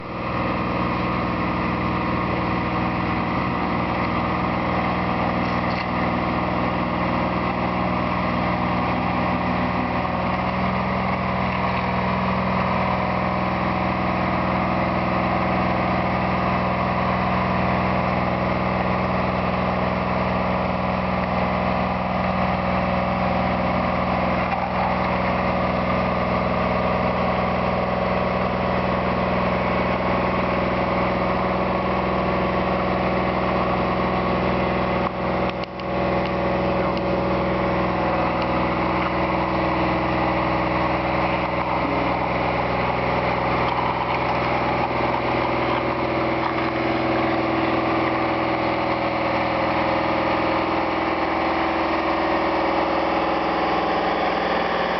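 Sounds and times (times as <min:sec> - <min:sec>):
road roller engine running: 0:00.0 - 0:54.9.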